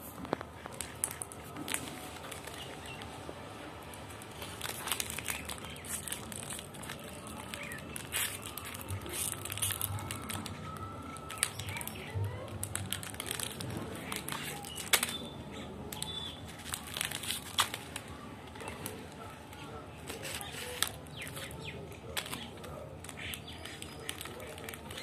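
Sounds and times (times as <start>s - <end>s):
plastic wrapper crinkling: 0.1s - 25.0s.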